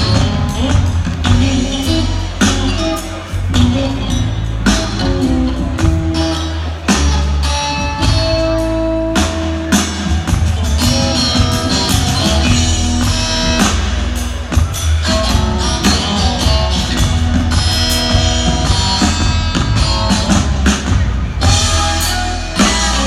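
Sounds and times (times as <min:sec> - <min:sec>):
drum kit: 0:00.0 - 0:23.0
electric guitar: 0:00.0 - 0:23.0
upright bass: 0:00.0 - 0:23.0.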